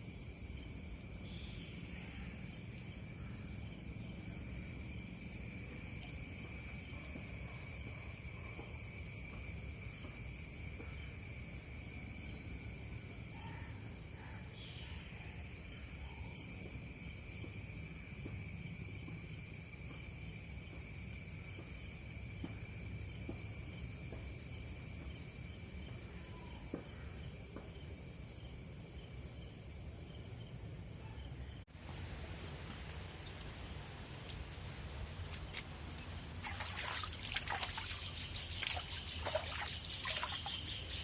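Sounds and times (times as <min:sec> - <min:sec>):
insects chirring: 0:00.0 - 0:41.0.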